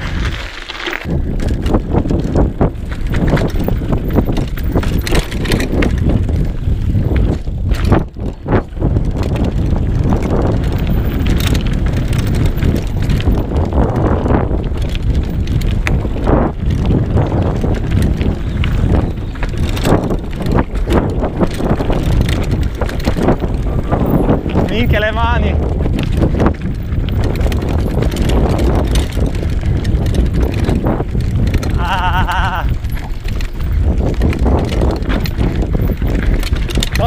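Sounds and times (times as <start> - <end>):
bike rattling over bumps: 0.0 - 37.0
tyres rumbling on dirt: 0.0 - 37.0
wind buffeting microphone: 0.0 - 37.0.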